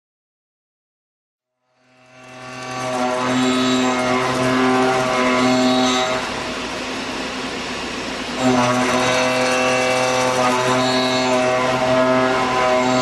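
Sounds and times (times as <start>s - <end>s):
rough machine noise: 1.7s - 13.0s
machine humming: 1.8s - 13.0s.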